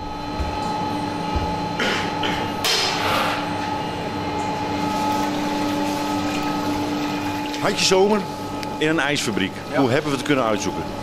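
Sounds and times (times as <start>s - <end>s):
machinery two-note hum: 0.0s - 11.0s.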